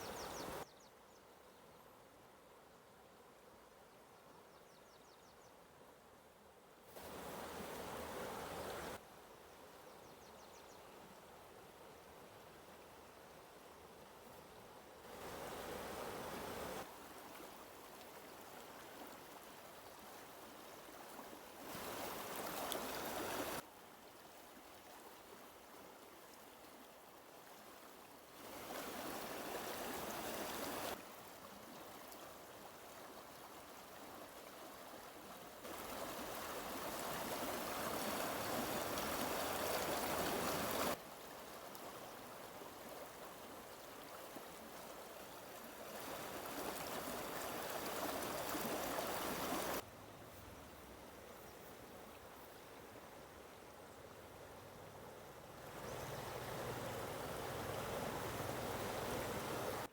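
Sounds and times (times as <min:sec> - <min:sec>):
flowing stream water: 0:00.0 - 0:04.5, 0:05.5 - 0:59.9.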